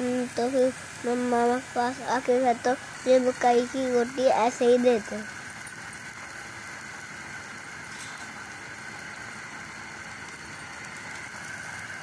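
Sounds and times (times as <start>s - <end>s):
gas burner rushing: 0.0s - 12.0s.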